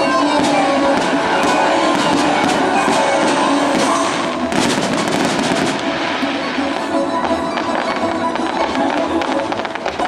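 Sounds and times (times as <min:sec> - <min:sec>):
loud music: 0:00.0 - 0:10.0
firework cracks: 0:00.2 - 0:10.0.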